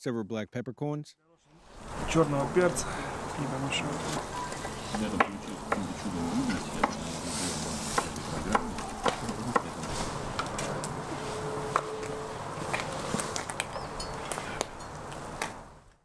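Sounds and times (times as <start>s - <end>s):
broth simmering and bubbling: 1.6s - 15.4s.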